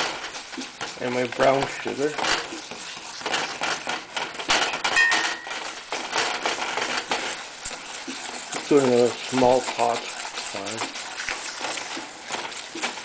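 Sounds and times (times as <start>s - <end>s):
metal fork scraping metal pot: 0.0s - 13.0s.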